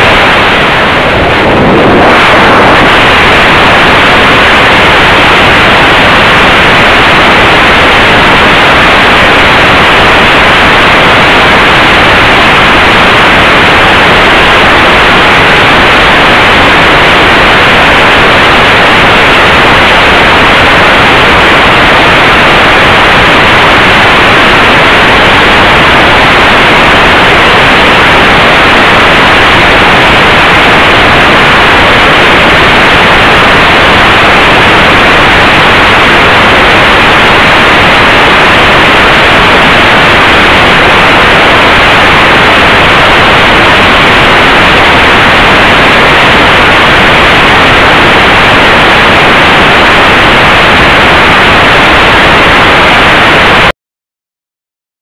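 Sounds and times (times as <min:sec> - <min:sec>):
loud static hiss: 0:00.0 - 0:53.8.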